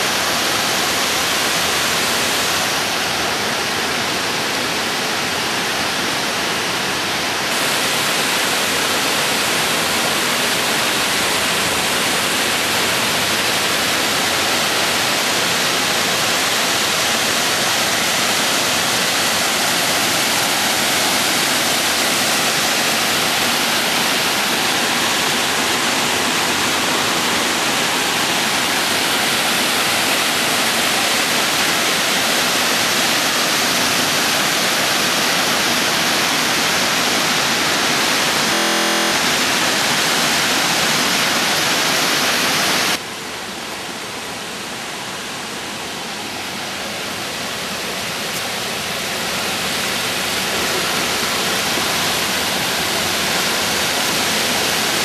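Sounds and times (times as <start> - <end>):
creek water cascading: 0.0 - 55.0.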